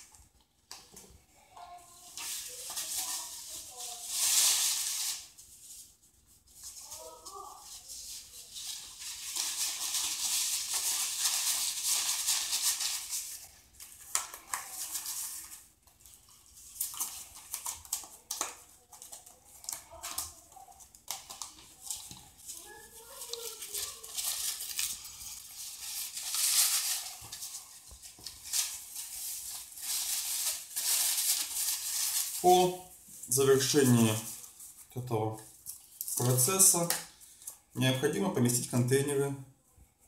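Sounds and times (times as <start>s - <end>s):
paper towels rustling: 0.0s - 37.4s.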